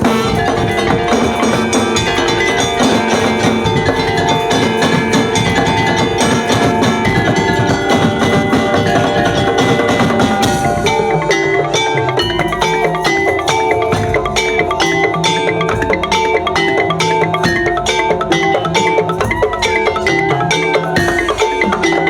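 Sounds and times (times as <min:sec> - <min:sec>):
percussion ensemble music: 0:00.0 - 0:22.0.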